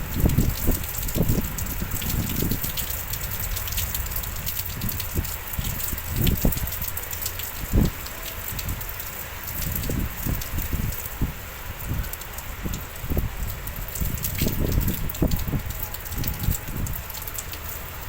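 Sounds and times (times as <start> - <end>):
heavy rain falling: 0.0 - 18.0
wind rumbling on microphone: 0.0 - 18.0.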